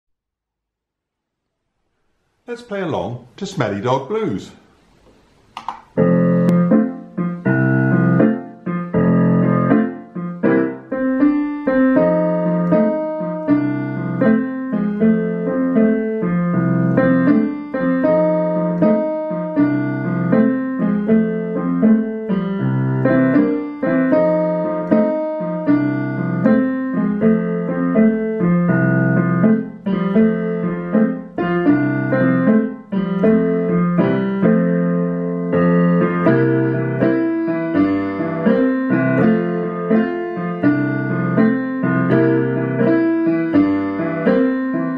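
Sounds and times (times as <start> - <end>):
slow blues on digital piano: 5.6 - 44.9.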